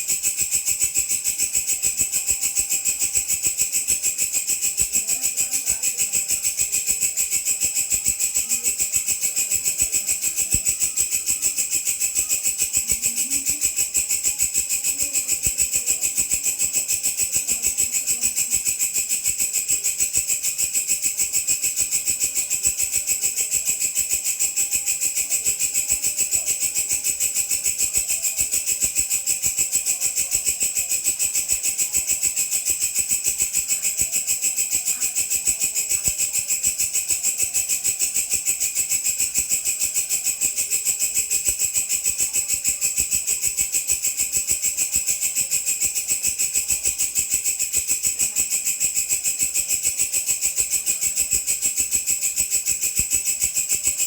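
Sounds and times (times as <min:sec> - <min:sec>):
insect stridulating buzz: 0:00.0 - 0:54.0.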